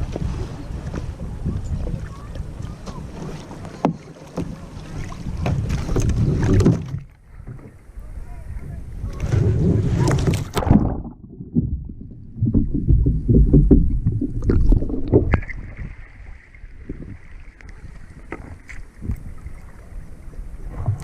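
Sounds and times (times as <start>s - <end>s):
water splashing around kayak: 0.0s - 21.0s.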